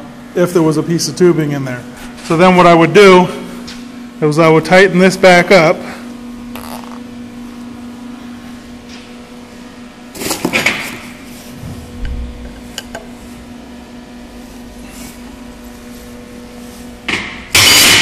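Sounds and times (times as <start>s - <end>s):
air compressor humming: 0.0s - 18.0s.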